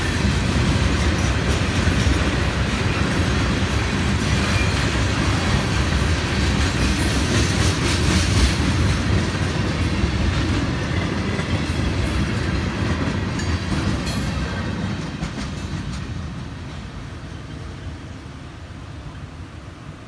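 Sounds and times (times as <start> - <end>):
sharp clicks of train wheels: 0.0 - 18.0
freight train wheels rumbling: 0.0 - 20.0.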